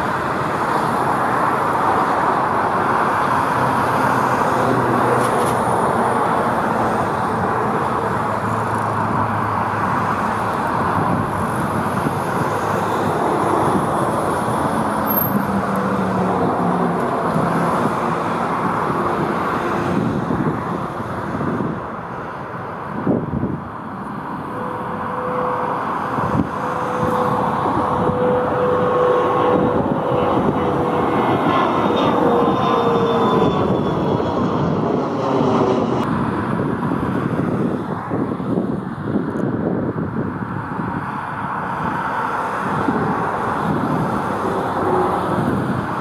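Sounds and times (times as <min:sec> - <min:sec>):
jet airliner passing: 0:00.0 - 0:46.0.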